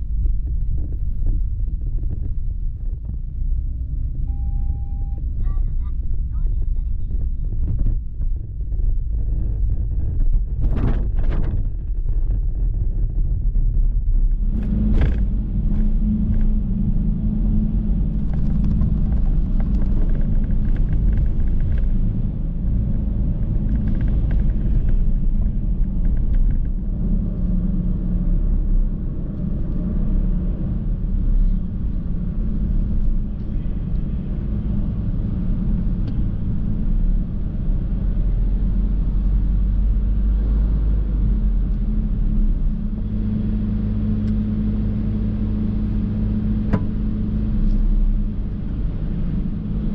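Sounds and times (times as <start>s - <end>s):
low engine rumble: 0.0s - 49.9s.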